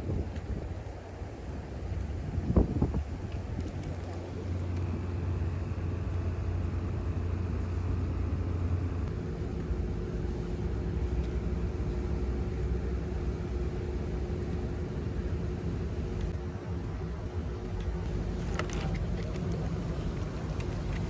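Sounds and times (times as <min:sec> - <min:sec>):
vehicle engine running: 0:03.4 - 0:21.0.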